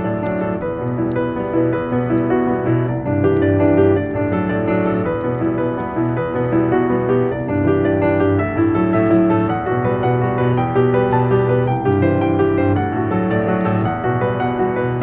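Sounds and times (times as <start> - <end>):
slow solo piano music: 0.0 - 15.0
wood fire crackling: 0.0 - 15.0.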